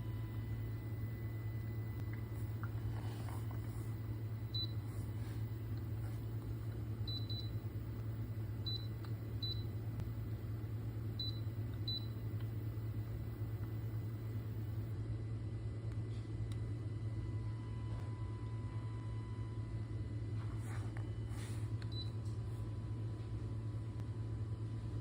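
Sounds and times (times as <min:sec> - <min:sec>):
humidifier humming: 0:00.0 - 0:25.0.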